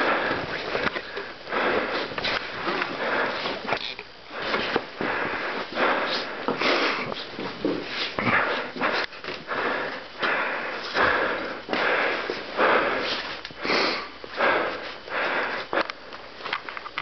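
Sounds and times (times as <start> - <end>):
person breathing hard: 0.0 - 16.3.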